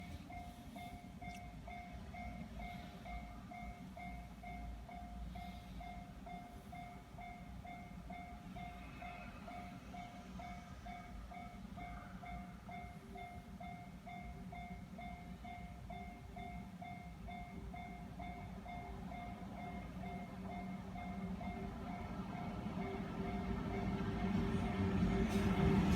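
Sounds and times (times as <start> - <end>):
level crossing warning bell: 0.0 - 25.9.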